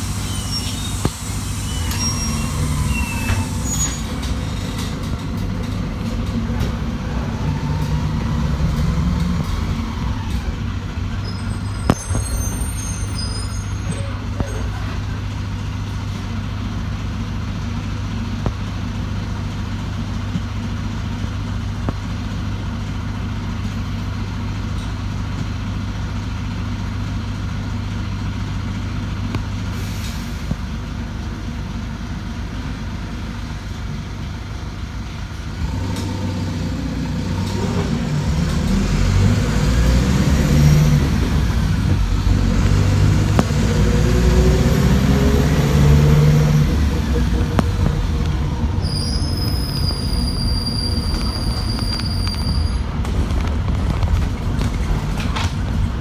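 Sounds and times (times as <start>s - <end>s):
bus engine idling and accelerating: 0.0s - 56.0s.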